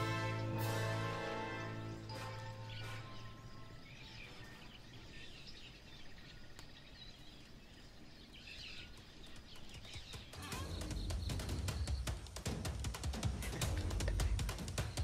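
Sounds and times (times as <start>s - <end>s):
birds chirping: 0.0s - 15.0s
faint outdoor background noise: 0.0s - 15.0s.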